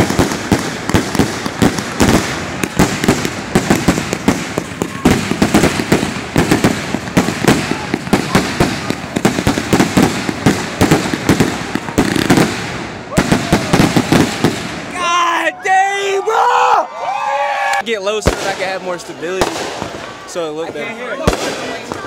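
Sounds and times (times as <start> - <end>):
fireworks launching and bursting: 0.0 - 15.1, 17.8 - 22.0.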